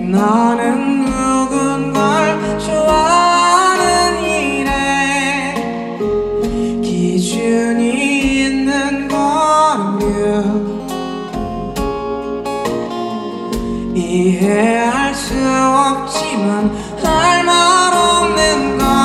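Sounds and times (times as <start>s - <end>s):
man singing into a microphone: 0.0s - 11.2s, 13.8s - 19.0s
band accompaniment: 0.0s - 19.0s
strummed acoustic guitar: 0.0s - 19.0s.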